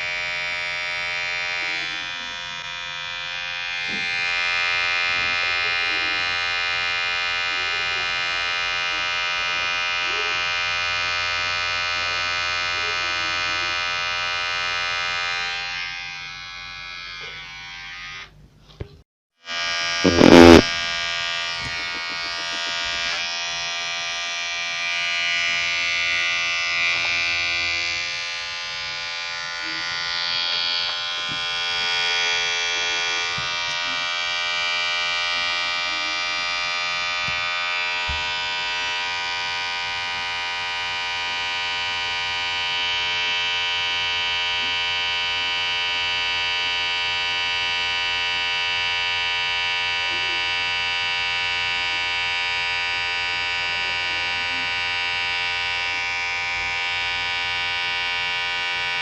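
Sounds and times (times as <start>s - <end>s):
electric hair clipper buzzing: 0.0s - 18.4s, 19.4s - 59.0s.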